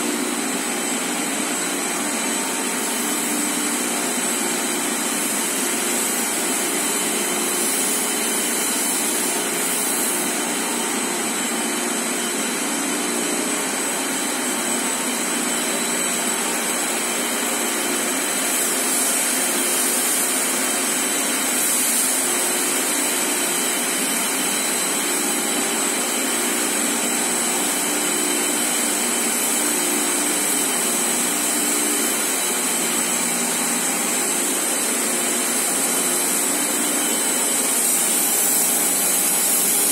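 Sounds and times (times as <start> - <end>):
high-pitched machine whine: 0.0 - 39.9.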